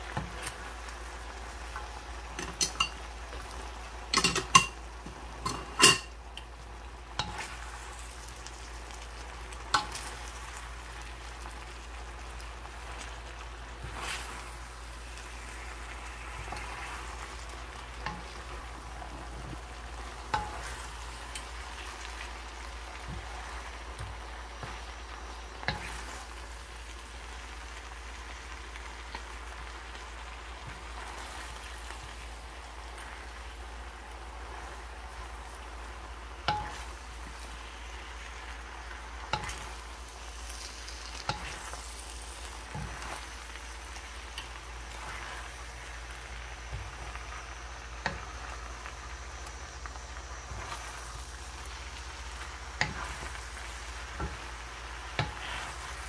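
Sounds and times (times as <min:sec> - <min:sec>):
food sizzling in a skillet: 0:00.0 - 0:56.0.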